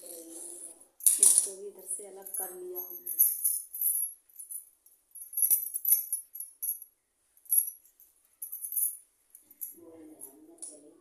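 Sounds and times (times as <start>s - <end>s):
bangles jingling: 0.0s - 10.9s.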